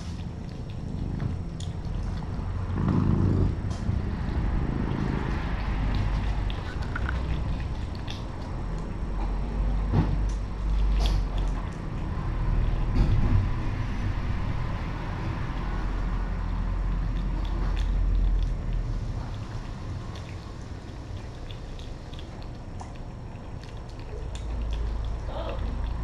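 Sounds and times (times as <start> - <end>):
cats chewing and licking: 0.0 - 26.0
low steady rumble: 0.0 - 26.0.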